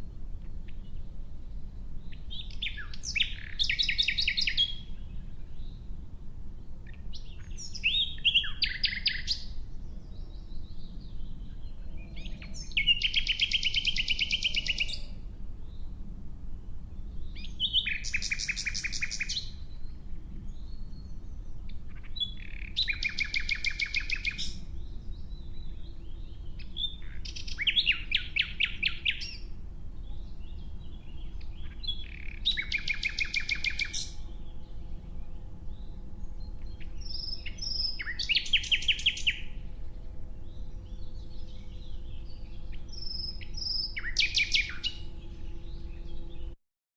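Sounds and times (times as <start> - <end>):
nightingale singing: 0.0 - 46.6.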